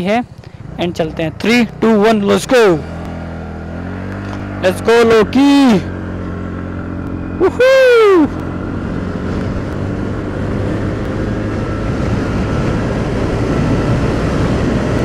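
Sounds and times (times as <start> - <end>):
wind and road rush: 0.0 - 15.0
scooter engine at full throttle: 0.1 - 15.0.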